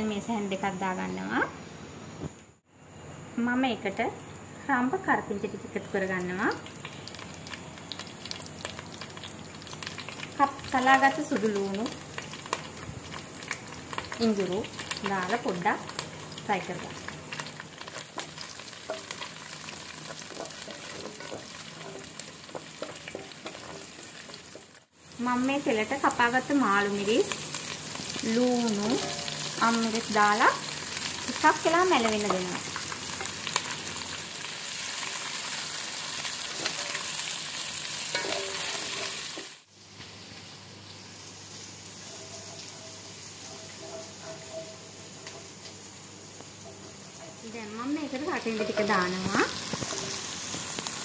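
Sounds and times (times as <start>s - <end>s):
food sizzling in hot oil: 4.9s - 51.0s.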